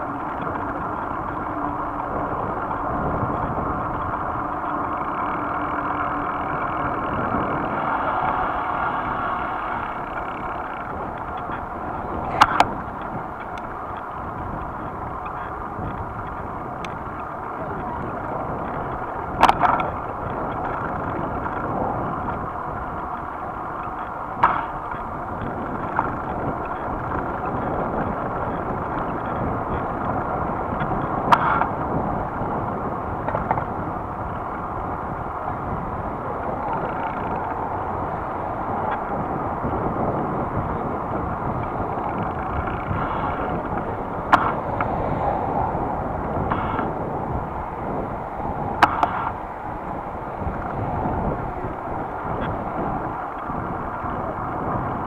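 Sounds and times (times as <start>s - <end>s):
bicycle tyre hum on asphalt: 0.0s - 55.0s
wind rush: 0.0s - 55.0s.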